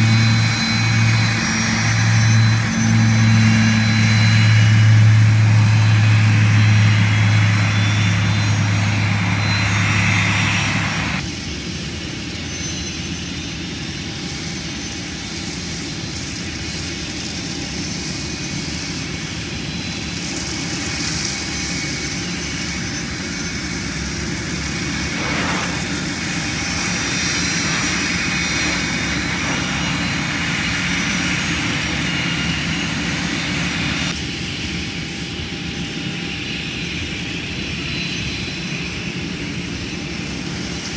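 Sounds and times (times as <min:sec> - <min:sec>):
distant jet engine rumble: 0:00.0 - 0:40.9
propeller airplane droning: 0:00.0 - 0:40.9.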